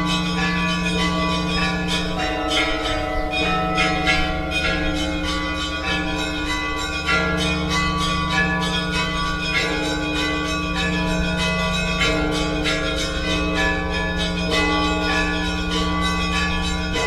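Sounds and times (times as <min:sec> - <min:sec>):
large bells humming: 0:00.0 - 0:17.0
small church bells ringing quickly: 0:00.0 - 0:17.0.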